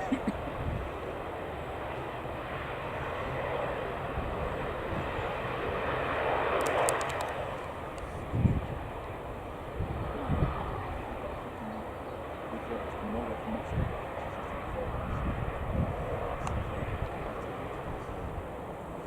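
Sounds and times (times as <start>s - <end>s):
jet engine rush: 0.0s - 19.0s.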